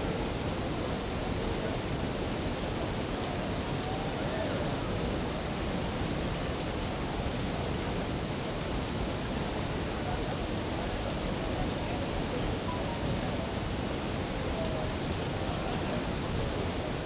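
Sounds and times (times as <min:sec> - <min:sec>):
waterfall and river rushing: 0:00.0 - 0:17.0.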